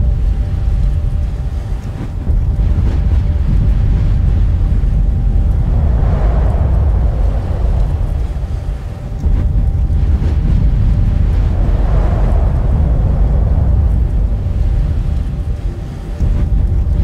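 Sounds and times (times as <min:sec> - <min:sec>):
deep wind-like rumble: 0:00.0 - 0:17.0.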